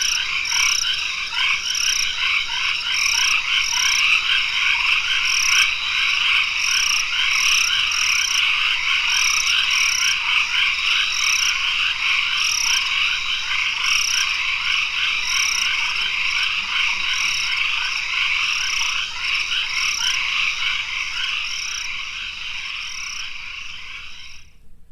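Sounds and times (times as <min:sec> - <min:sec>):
higher repeating frog call: 0:00.0 - 0:24.5
frogs trilling chorus: 0:00.0 - 0:24.6.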